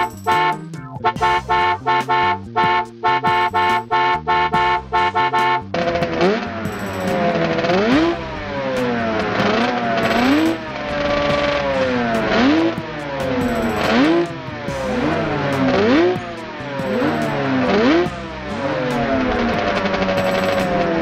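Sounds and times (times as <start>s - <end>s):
engine revving in throttle blips: 0.0s - 21.0s.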